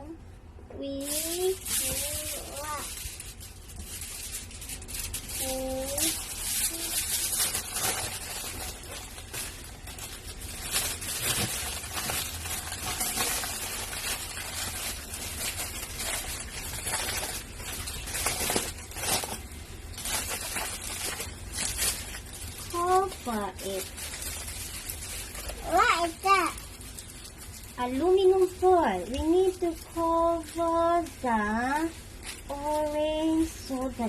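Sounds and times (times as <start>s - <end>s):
aluminium foil crinkling: 0.8s - 34.0s.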